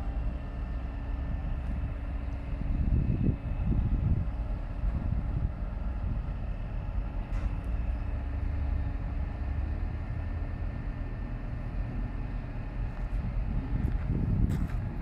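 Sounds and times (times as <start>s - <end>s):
diesel engines rumbling: 0.0s - 15.0s.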